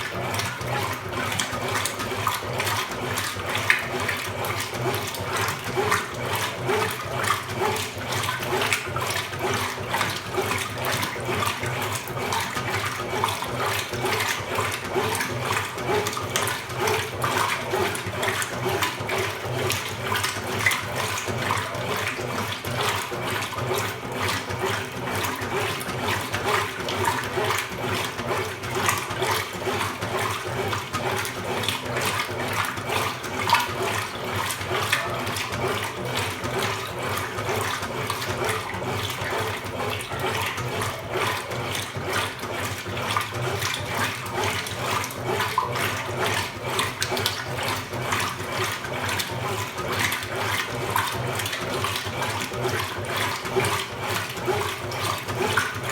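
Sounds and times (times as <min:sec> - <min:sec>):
water splashing in washing machine: 0:00.0 - 0:55.9.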